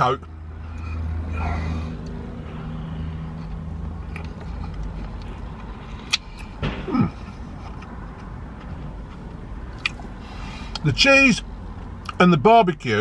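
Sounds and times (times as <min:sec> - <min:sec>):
road traffic passing: 0:00.0 - 0:13.0
vehicle engine hum: 0:00.0 - 0:13.0.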